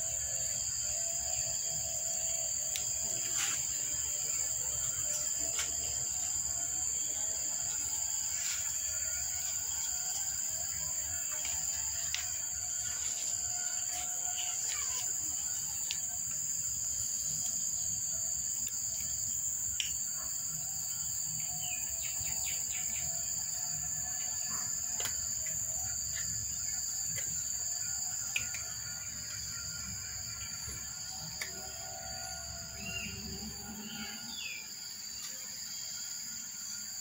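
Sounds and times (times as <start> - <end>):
high-pitched insect chirring: 0.0 - 37.0.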